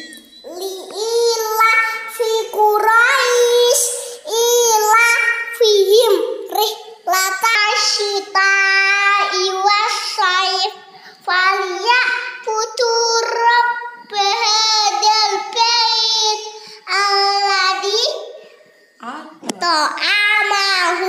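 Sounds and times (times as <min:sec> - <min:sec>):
girl chanting prayer: 0:00.0 - 0:21.0.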